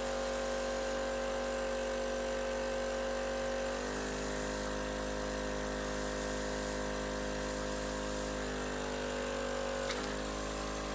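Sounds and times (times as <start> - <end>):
suction pump motor humming: 0.0 - 10.9.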